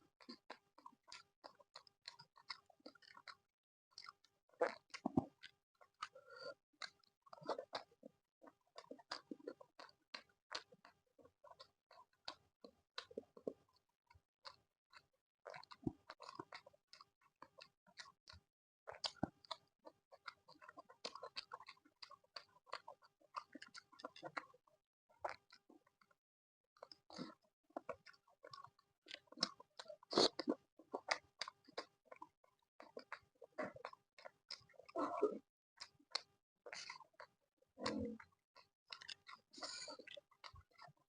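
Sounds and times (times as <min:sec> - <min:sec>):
chewing with mouth clicks and crunches: 0:00.0 - 0:26.2, 0:26.8 - 0:41.0.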